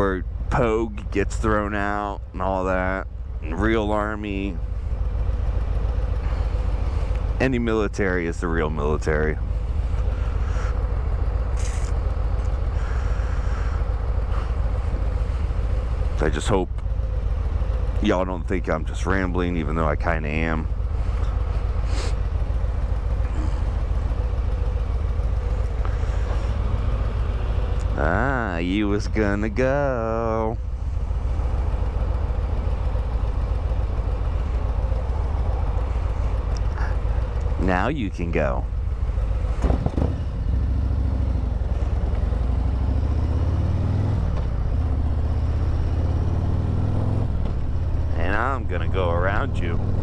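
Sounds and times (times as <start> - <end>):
motorcycle engine rumbling: 0.0 - 50.0.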